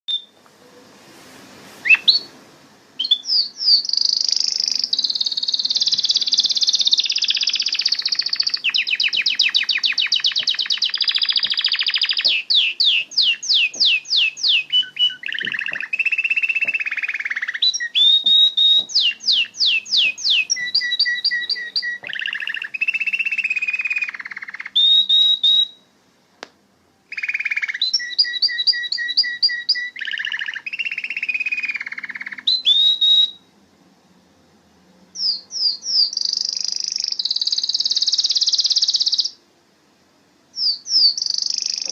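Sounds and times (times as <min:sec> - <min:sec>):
canary singing trills: 0:00.1 - 0:00.4, 0:01.8 - 0:02.3, 0:03.0 - 0:25.9, 0:27.1 - 0:33.5, 0:35.1 - 0:39.4, 0:40.5 - 0:41.9.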